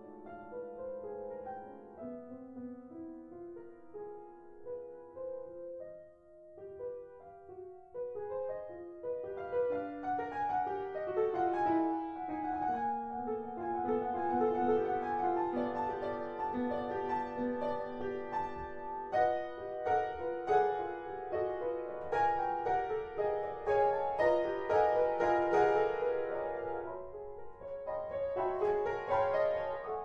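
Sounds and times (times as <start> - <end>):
upright piano classical piece: 0.0 - 30.0.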